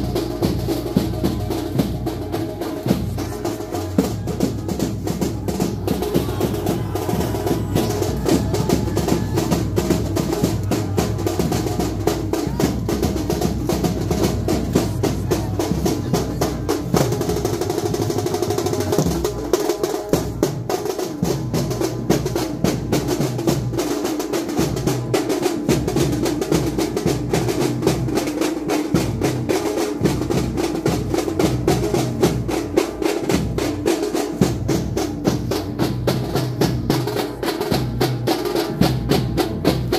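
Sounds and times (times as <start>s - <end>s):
drums beaten fast: 0.0s - 39.9s.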